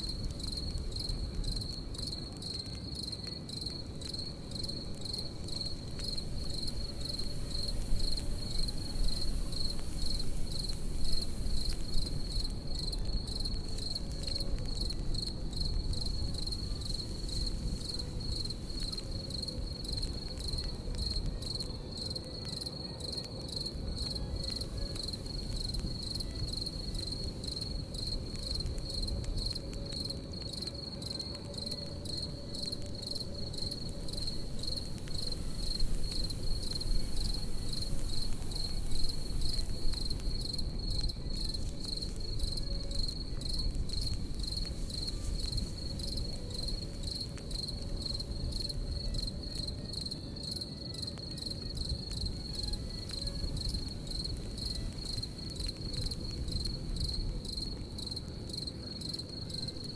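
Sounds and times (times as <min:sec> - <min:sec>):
campfire crackling: 0:00.0 - 0:59.9
crickets chirping: 0:00.0 - 0:59.9.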